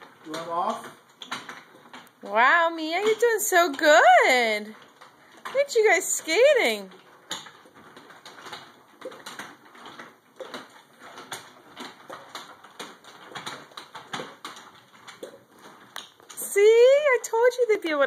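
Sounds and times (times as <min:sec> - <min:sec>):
roller skates clacking on wooden floor: 0:00.0 - 0:18.0.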